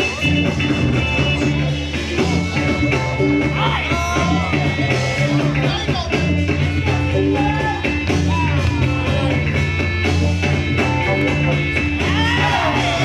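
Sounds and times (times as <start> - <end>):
bass-heavy music over speakers: 0.0 - 13.0.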